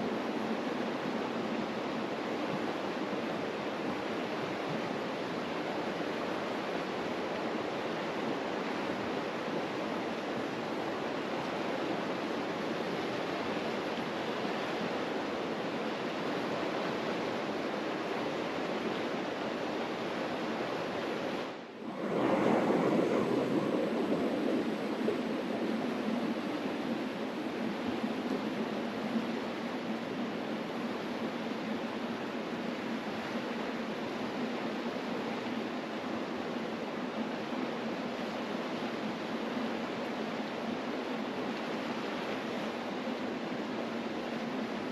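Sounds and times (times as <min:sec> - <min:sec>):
river rushing: 0:00.1 - 0:44.9.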